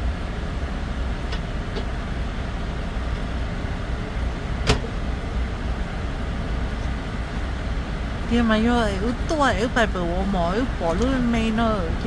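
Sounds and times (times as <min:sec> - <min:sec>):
truck rumble from inside cab: 0:00.0 - 0:12.0.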